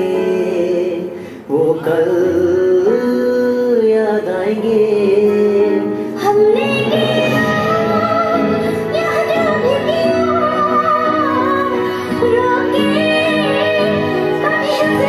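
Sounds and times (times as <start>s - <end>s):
instrumental backing: 0.0s - 15.0s
person singing: 0.0s - 15.0s.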